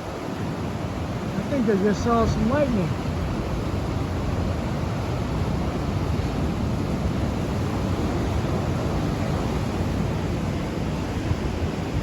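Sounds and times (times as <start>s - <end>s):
wind blowing: 0.0s - 12.0s
wind buffeting microphone: 0.0s - 12.0s.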